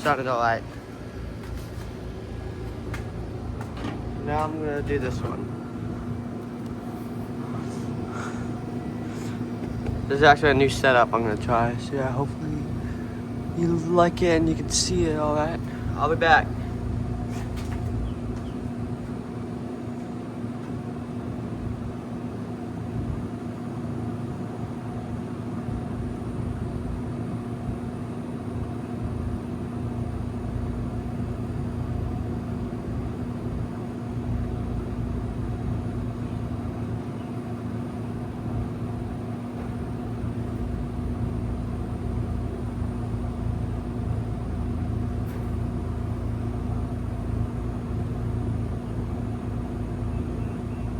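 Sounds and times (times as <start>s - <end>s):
heat pump unit humming: 0.0s - 50.9s.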